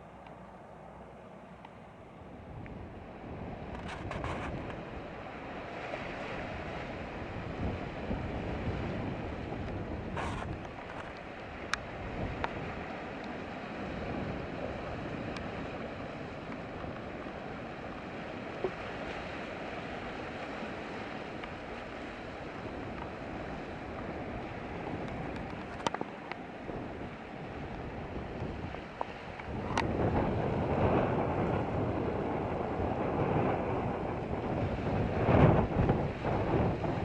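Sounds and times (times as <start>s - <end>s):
wind: 0.0s - 37.0s
surf washing over rocks: 2.4s - 37.0s.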